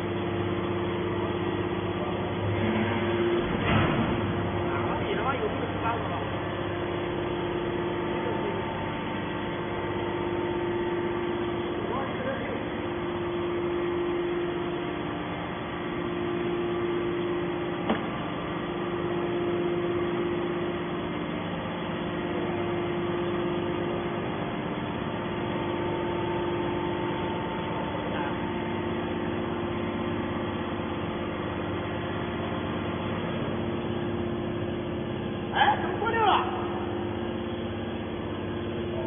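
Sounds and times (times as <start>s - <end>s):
machine hum: 0.0s - 39.0s.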